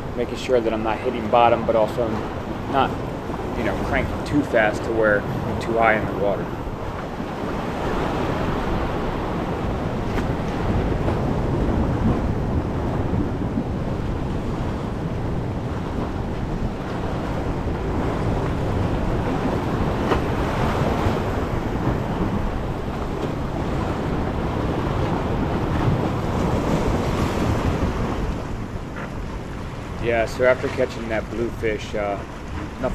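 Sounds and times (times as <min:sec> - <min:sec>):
waves breaking over rocks: 0:00.0 - 0:32.9
wind buffeting microphone: 0:00.0 - 0:32.9.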